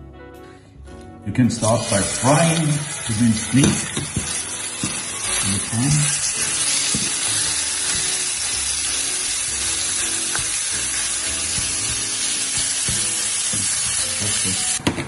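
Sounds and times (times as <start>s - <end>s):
meat sizzling in a pan: 1.6s - 14.8s
spatula stirring in a pan: 2.0s - 14.1s.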